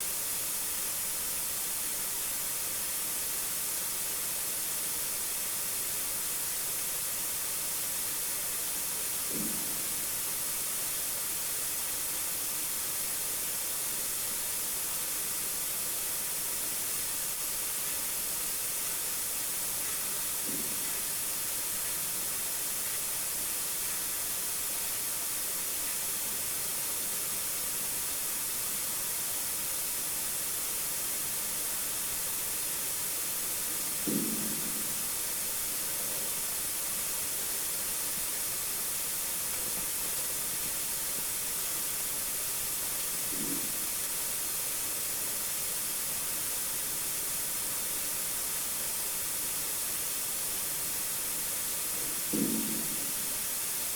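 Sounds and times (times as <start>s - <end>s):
steady high hiss: 0.0s - 53.9s.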